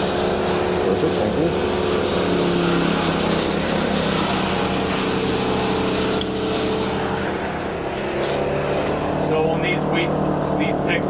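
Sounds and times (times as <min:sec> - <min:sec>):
crane engine running: 0:00.0 - 0:11.0.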